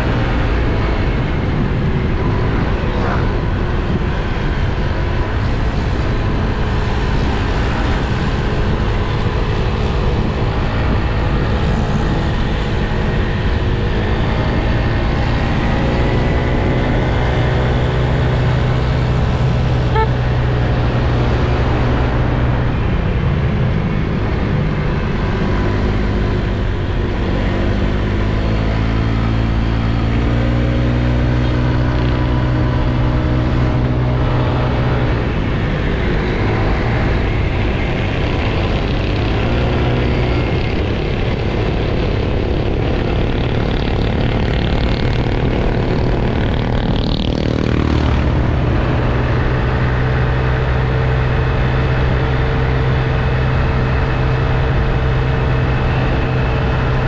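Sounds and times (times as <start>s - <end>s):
scooter engine accelerating: 0.0s - 57.0s
wind and road noise: 0.0s - 57.0s.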